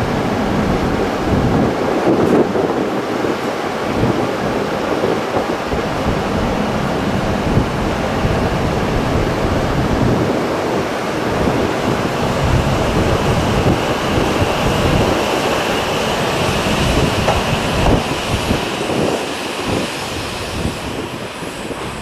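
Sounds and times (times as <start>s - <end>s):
vehicle rumble and rush: 3.9s - 22.0s.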